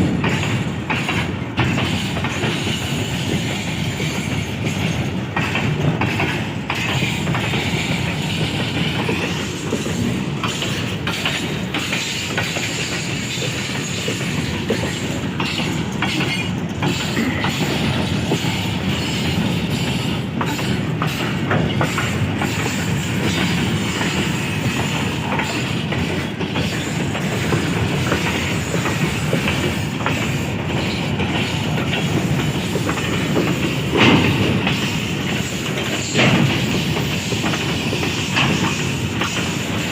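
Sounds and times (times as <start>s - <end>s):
loud train clank: 0.0s - 39.9s
train wheels clicking over rail joints: 0.0s - 39.9s.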